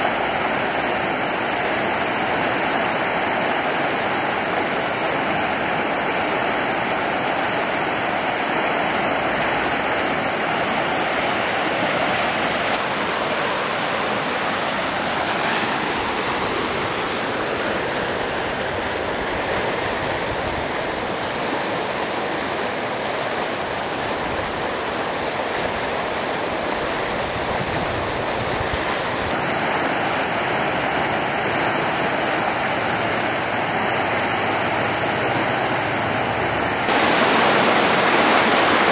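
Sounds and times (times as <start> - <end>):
creek water rushing over rapids: 0.0 - 38.9.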